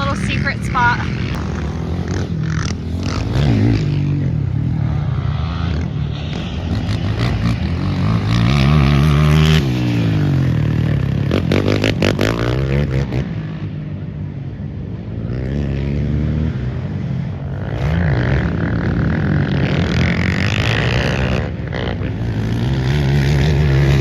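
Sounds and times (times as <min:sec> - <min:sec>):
quad engines revving: 0:00.0 - 0:13.7, 0:17.5 - 0:24.0.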